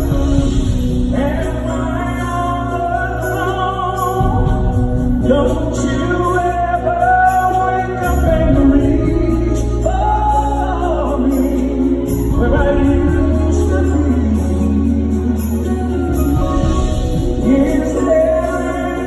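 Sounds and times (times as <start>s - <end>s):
bass and keyboards: 0.0s - 19.0s.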